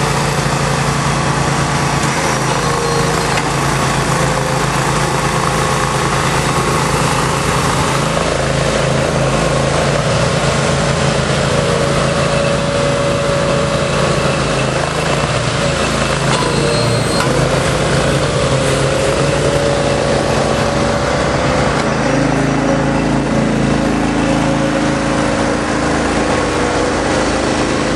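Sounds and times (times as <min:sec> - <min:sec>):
small engine running under load: 0:00.0 - 0:27.9.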